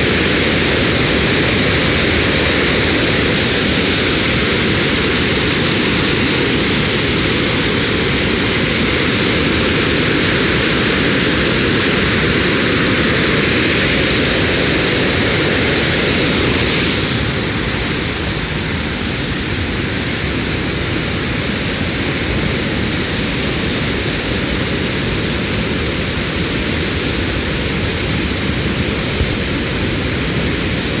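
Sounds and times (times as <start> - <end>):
roar of rushing floodwater: 0.0 - 31.0.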